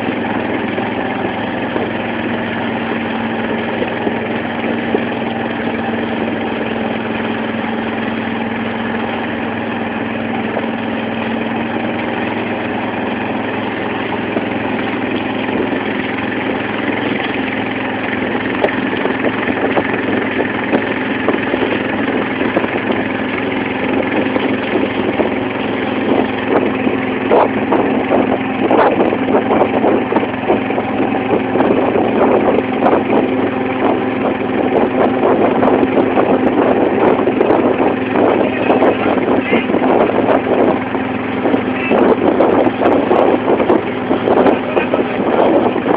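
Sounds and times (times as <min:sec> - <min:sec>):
motorboat engine running: 0:00.0 - 0:45.9
water splashing against hull: 0:00.0 - 0:45.9.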